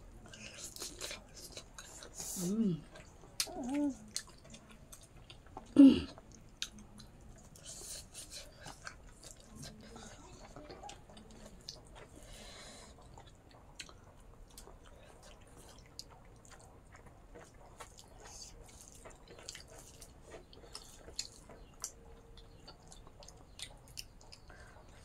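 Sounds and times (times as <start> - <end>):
people chewing: 0.0 - 25.0.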